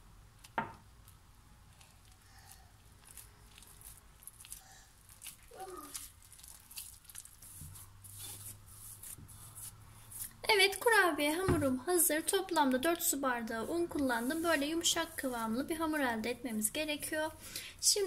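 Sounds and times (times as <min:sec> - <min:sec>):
dough squishing: 0:00.0 - 0:17.8.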